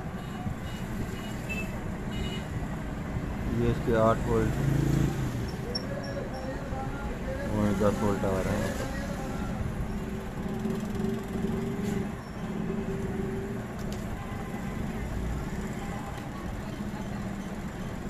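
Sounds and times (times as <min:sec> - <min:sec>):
road traffic drone: 0:00.0 - 0:18.0.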